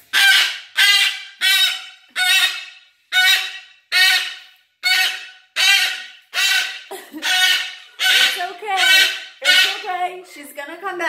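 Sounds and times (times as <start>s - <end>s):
cockatoo screaming: 0.1s - 9.9s.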